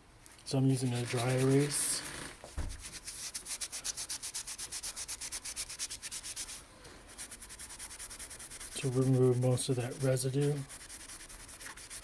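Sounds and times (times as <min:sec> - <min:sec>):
eraser rubbing on keypad: 0:01.0 - 0:12.0.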